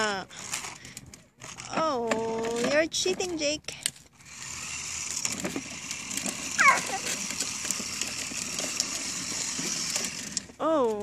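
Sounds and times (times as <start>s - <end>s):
toy motor whine: 0.0s - 3.5s, 4.1s - 11.0s
plastic wheels rattling on concrete: 0.0s - 11.0s.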